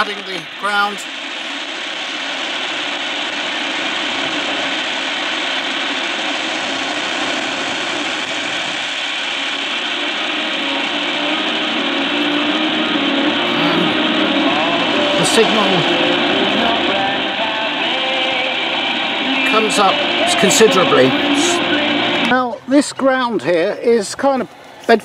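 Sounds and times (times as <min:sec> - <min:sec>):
radio station audio: 0:00.0 - 0:01.7, 0:02.8 - 0:25.0
radio static hiss: 0:00.0 - 0:25.0.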